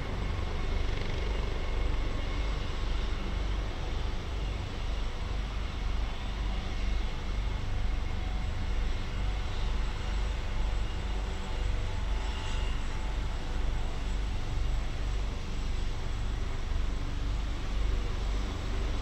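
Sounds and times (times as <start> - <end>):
helicopter rotor rumble: 0.0 - 19.0
helicopter turbine whine: 0.0 - 19.0.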